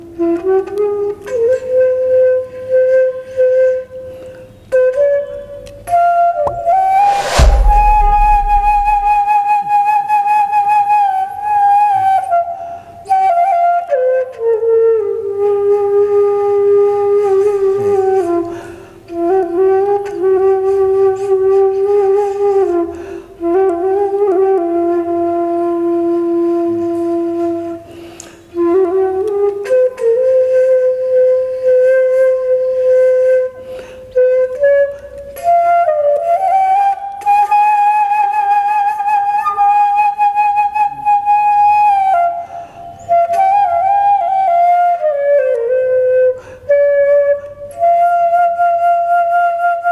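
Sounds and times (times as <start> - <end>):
flute-like slow melody: 0.0 - 49.9.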